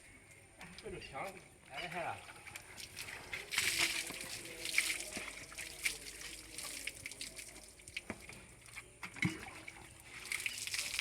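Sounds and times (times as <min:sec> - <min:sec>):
water trickling and splashing: 0:00.6 - 0:11.0.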